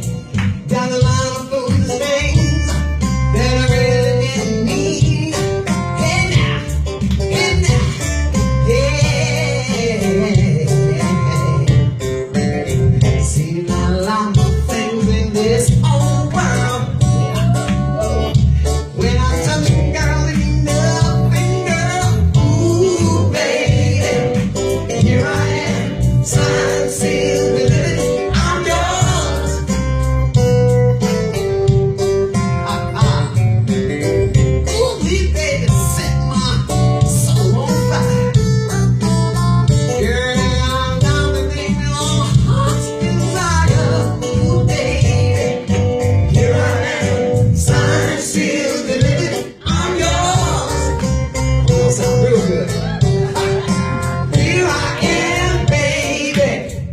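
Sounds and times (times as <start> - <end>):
band music with singer: 0.0 - 56.9
steady bass line: 0.0 - 56.9.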